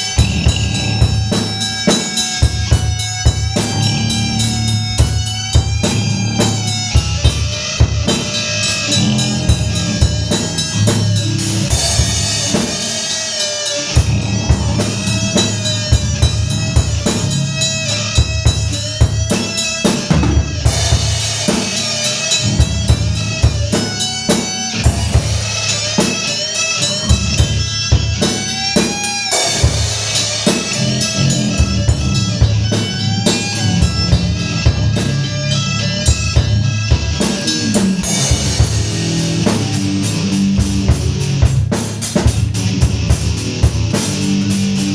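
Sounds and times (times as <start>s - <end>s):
drum kit kick and snare: 0.0s - 44.9s
metal song: 0.0s - 44.9s.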